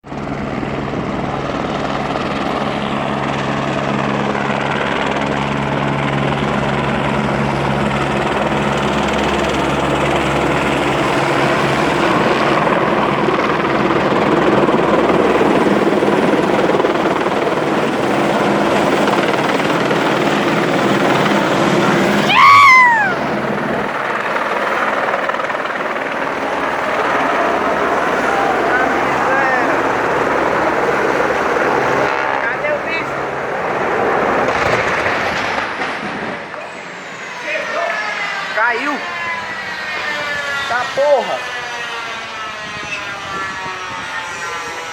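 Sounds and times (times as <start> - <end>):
helicopter rotor and turbine: 0.0 - 44.9.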